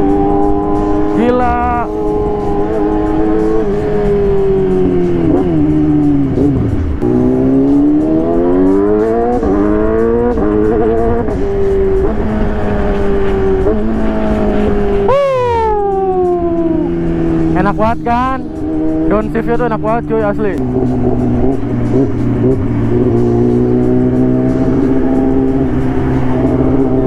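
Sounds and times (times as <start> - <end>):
motorcycle engine revving through gears: 0.0 - 15.1, 16.8 - 27.0.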